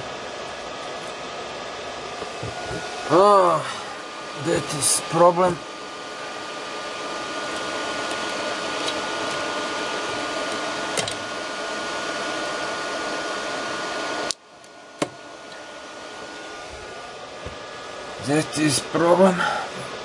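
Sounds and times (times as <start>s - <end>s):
lathe machinery whirring: 0.0s - 20.0s.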